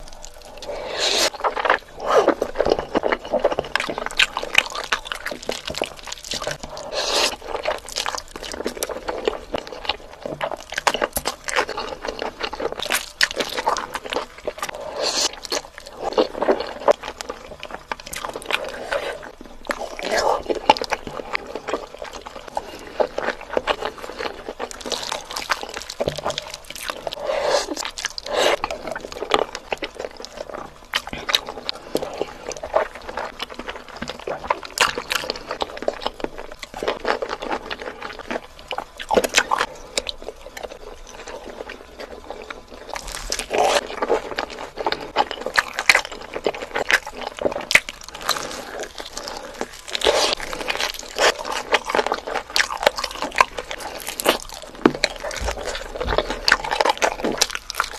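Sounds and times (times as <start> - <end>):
noodles slurped and chewed: 0.0 - 57.9.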